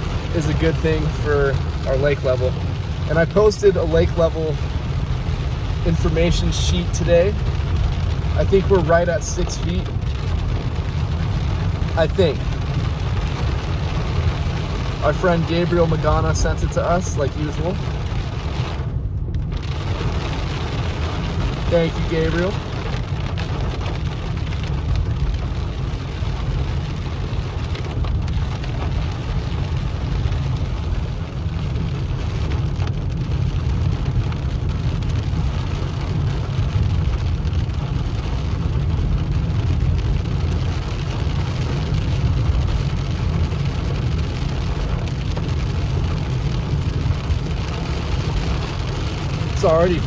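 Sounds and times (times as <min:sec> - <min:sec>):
car road and engine noise: 0:00.0 - 0:50.0
rain on windshield and roof: 0:00.0 - 0:50.0.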